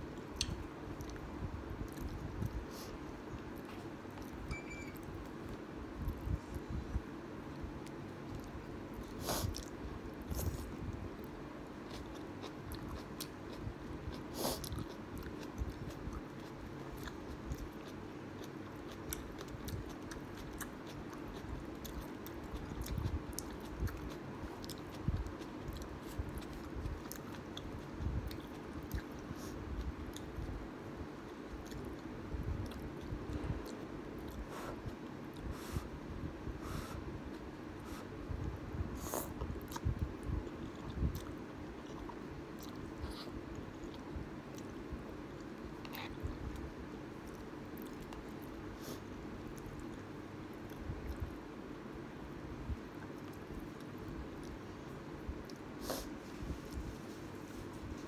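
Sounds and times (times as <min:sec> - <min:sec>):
faint steady hum: 0:00.0 - 0:58.0
chewing and crunching noodles: 0:07.6 - 0:35.6, 0:37.2 - 0:51.4, 0:52.7 - 0:58.0.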